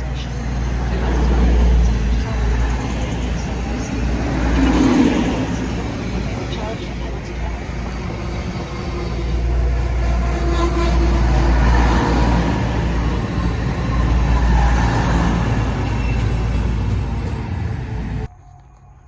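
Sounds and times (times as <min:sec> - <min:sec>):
train rumbling on rails: 0:00.0 - 0:18.3.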